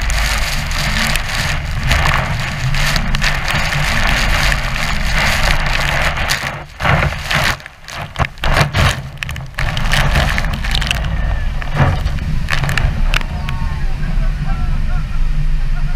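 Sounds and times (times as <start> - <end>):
boat engine rumbling: 0.0 - 15.9.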